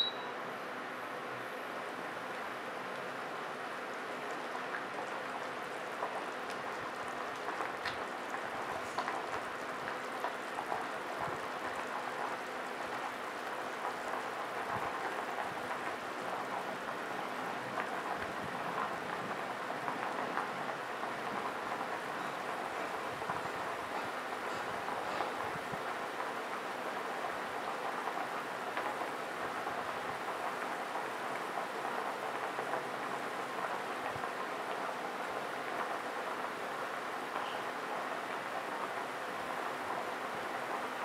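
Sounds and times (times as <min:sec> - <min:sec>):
soup boiling with popping bubbles: 0:02.2 - 0:41.0.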